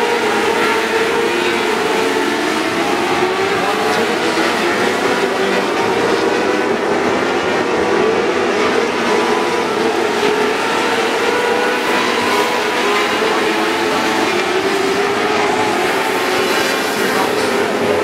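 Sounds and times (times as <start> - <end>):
racing engines droning: 0.0 - 18.0.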